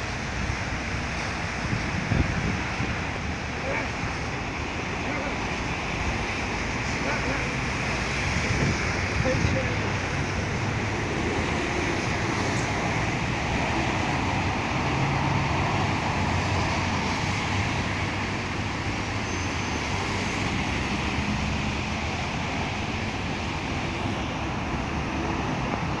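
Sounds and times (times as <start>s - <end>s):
low hum of traffic: 0.0s - 26.0s
steady rain hissing: 0.0s - 26.0s.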